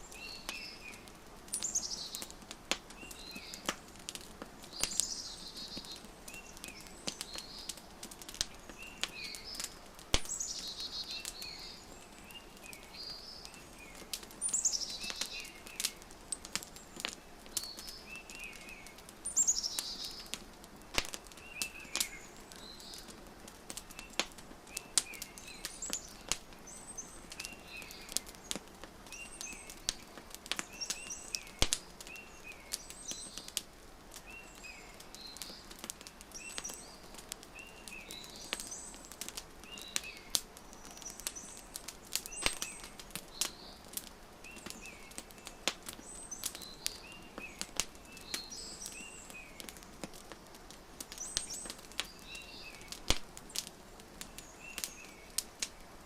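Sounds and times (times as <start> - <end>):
songbirds chirping: 0.0 - 56.0
wood fire crackling and popping: 0.0 - 56.0.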